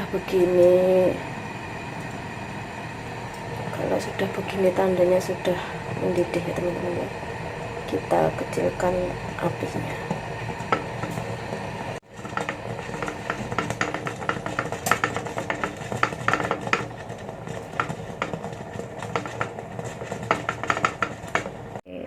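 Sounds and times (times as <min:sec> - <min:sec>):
pot boiling with steady hiss: 0:00.0 - 0:21.9.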